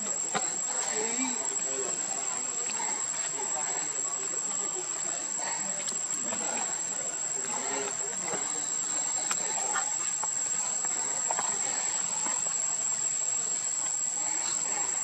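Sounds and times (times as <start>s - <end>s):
insect chorus ringing: 0.0s - 15.0s.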